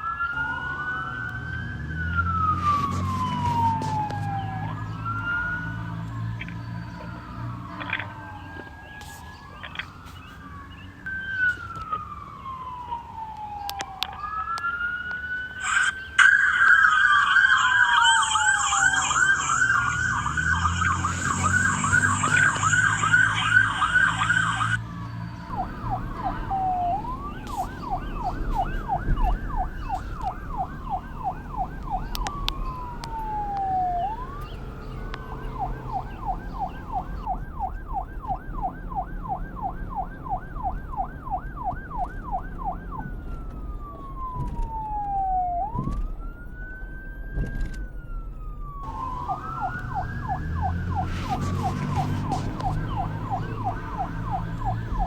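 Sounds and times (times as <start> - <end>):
loud siren rapid yelp: 0.0 - 55.0
police sirens wailing and yelping: 0.0 - 55.0.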